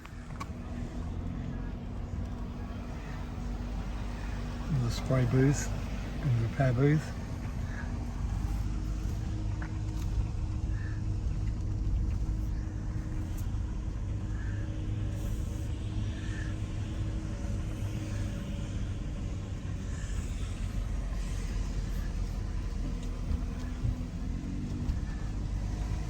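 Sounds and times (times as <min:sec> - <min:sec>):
car engine and road noise: 0:00.0 - 0:26.0
faint hum: 0:00.0 - 0:26.0.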